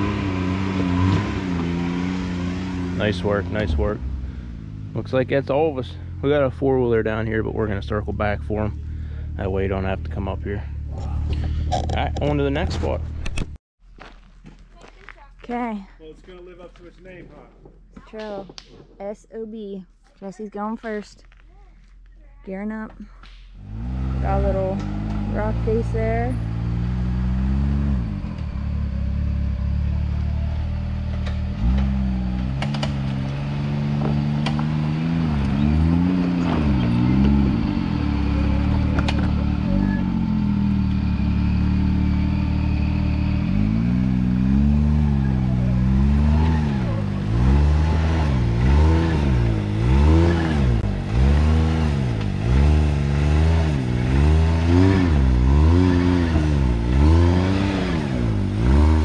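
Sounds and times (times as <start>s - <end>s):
engine idling and revving: 0.0s - 13.6s, 18.1s - 59.0s.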